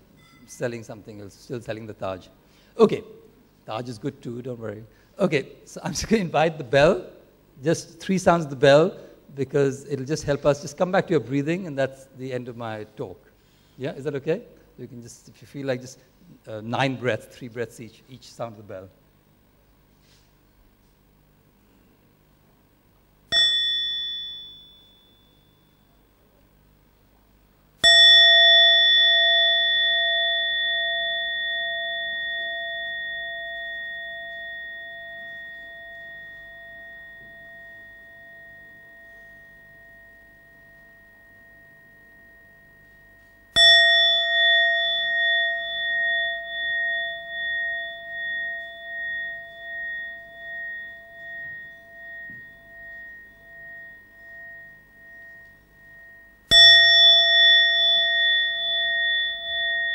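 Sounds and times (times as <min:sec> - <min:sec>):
meditation bell ringing: 0:00.0 - 0:17.3, 0:23.2 - 0:26.8, 0:27.8 - 0:59.9.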